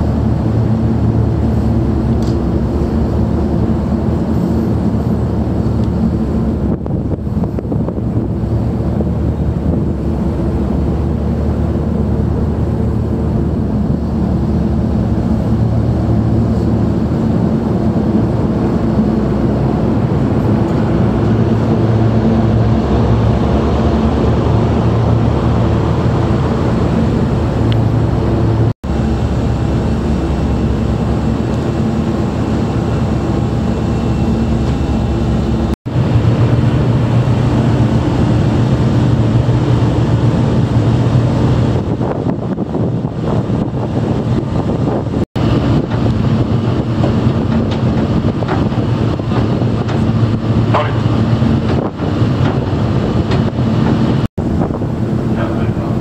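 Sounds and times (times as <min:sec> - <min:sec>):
ferry engines droning: 0:00.0 - 0:56.0.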